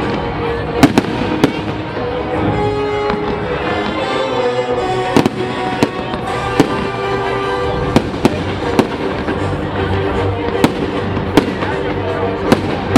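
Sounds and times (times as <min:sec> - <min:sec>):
background music with held notes: 0:00.0 - 0:12.9
fireworks bangs: 0:00.0 - 0:12.9.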